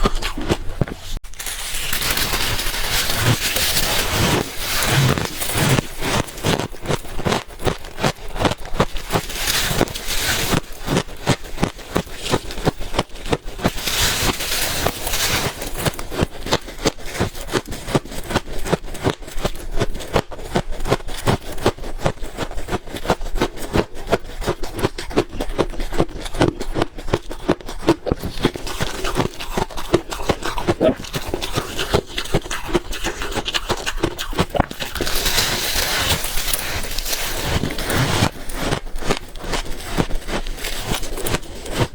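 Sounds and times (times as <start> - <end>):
person chewing ice: 0.0 - 41.9.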